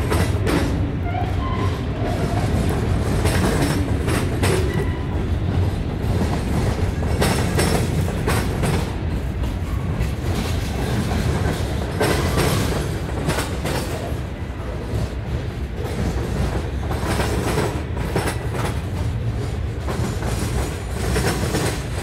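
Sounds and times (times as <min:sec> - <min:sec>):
steel wheels rumbling on rail: 0:00.0 - 0:22.0.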